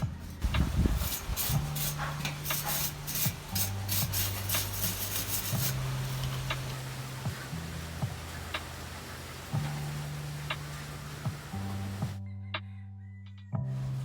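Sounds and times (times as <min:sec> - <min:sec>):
hand sanding strokes: 0:00.0 - 0:12.2
low background music: 0:00.0 - 0:14.0.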